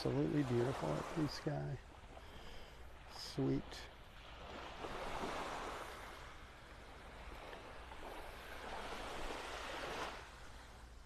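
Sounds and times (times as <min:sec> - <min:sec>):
gentle surf on sandy beach: 0:00.0 - 0:11.0.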